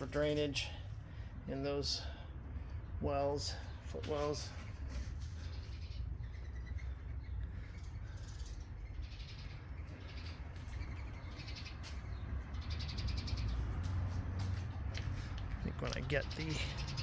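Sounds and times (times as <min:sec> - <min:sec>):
birds chirping: 0:00.0 - 0:17.0
low steady background rumble: 0:00.0 - 0:17.0.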